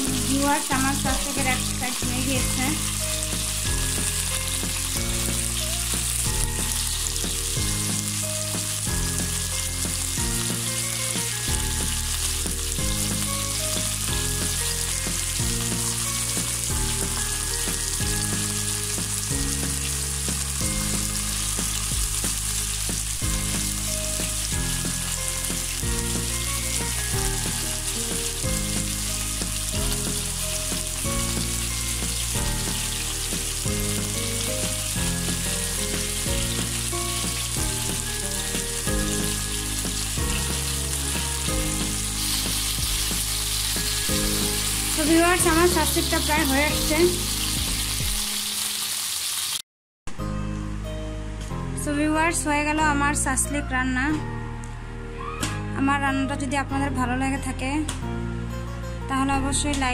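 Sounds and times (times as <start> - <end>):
music of slow held notes: 0.0 - 48.8, 50.1 - 59.9
skewers sizzling in oil: 0.0 - 49.6.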